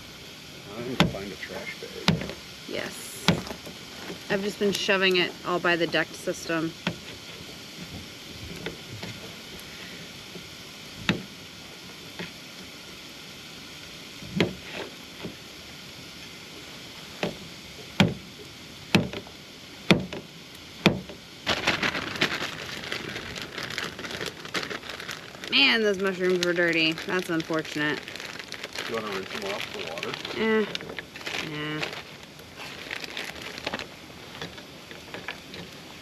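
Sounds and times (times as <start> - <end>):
fast dense crackle: 0.0 - 12.8, 13.8 - 36.0
rain hissing: 0.0 - 36.0.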